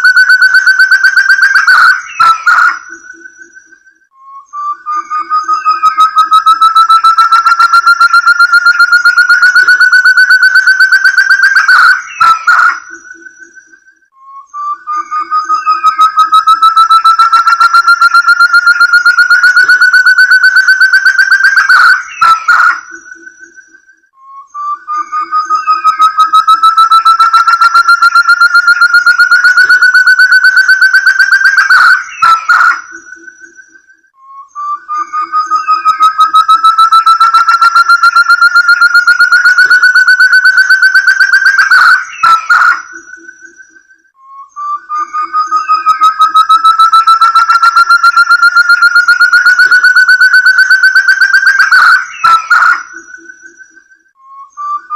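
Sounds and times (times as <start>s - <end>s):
rapid whistled bird call: 0.0s - 54.9s.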